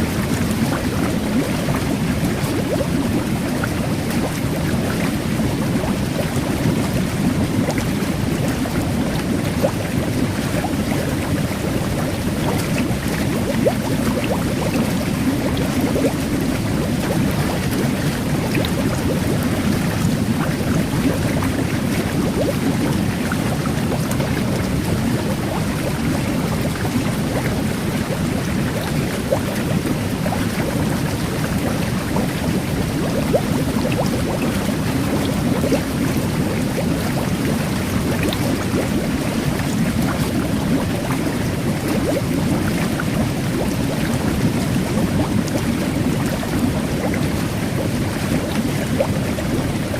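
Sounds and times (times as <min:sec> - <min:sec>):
fizz of micro-bubbles: 0:00.0 - 0:49.9
jet bath churning water: 0:00.0 - 0:49.9.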